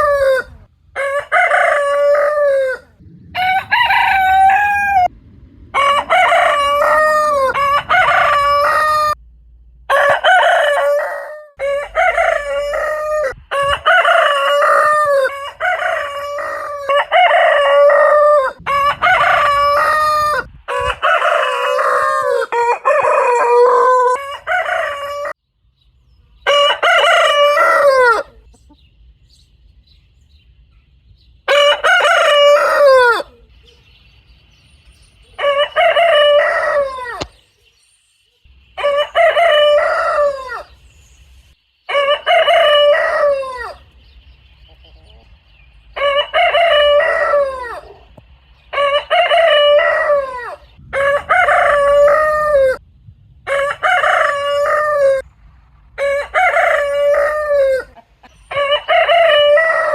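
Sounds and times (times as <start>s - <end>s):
roosters crowing: 0.0s - 9.2s, 9.8s - 25.4s, 26.4s - 28.8s, 31.4s - 33.7s, 35.2s - 37.5s, 38.6s - 52.8s, 53.4s - 59.9s.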